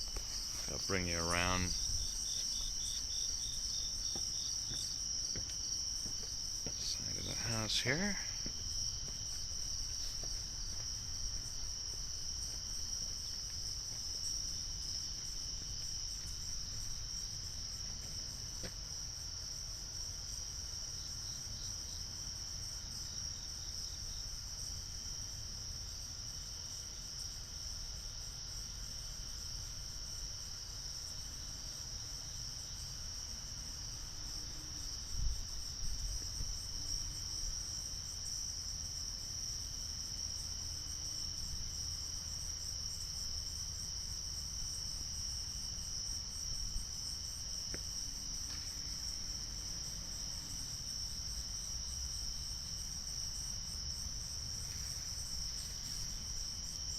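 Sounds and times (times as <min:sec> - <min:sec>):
insects trilling: 0:00.0 - 0:56.9.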